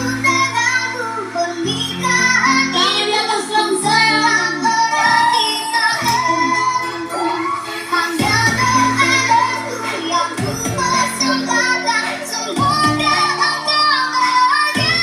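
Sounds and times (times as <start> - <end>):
keyboard band music: 0.0 - 15.0.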